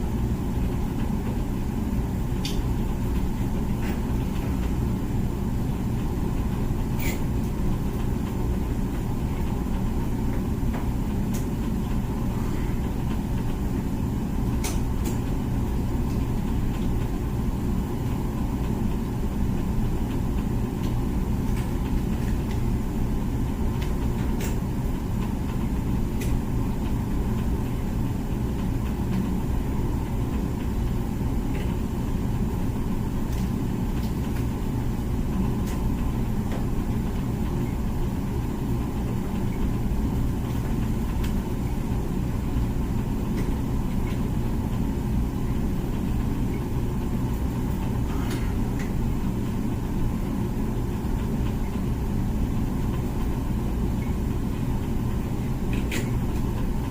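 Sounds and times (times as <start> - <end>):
dishwasher humming: 0.0 - 56.9.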